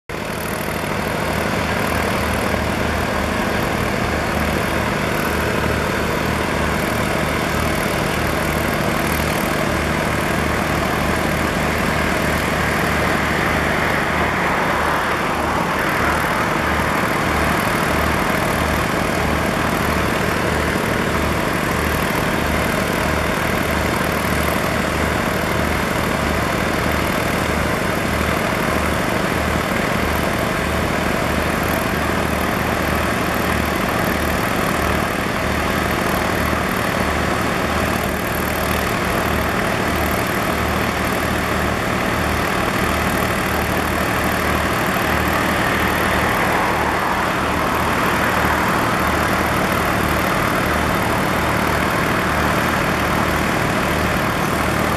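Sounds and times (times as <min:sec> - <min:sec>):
diesel locomotives idling: 0:00.1 - 0:54.9.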